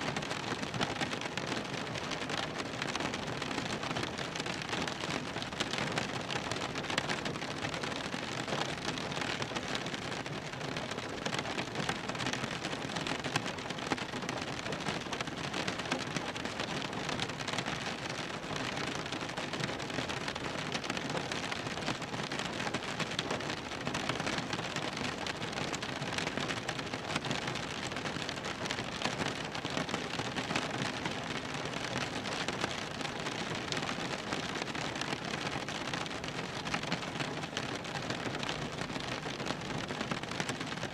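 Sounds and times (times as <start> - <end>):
rain drumming on car roof: 0.0 - 40.9.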